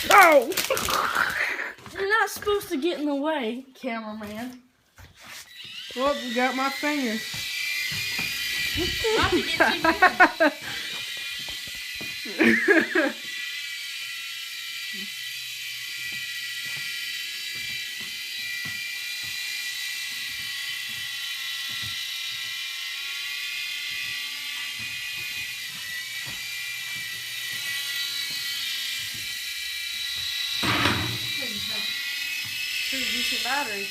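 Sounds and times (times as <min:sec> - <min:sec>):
toy helicopter motor whine: 0:00.0 - 0:03.1, 0:04.4 - 0:33.9.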